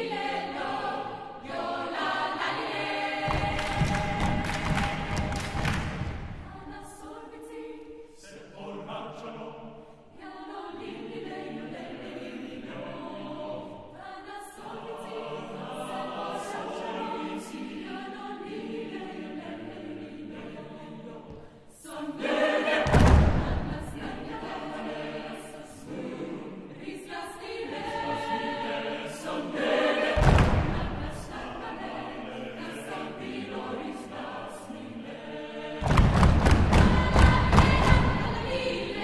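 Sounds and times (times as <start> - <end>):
choir singing a cappella: 0.0 - 39.0.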